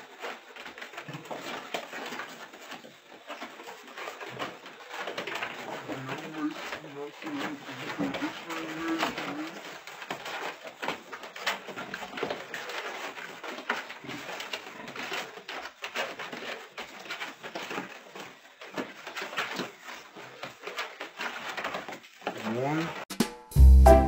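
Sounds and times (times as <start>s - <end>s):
pigs scuffing on wooden boards: 0.0s - 23.0s.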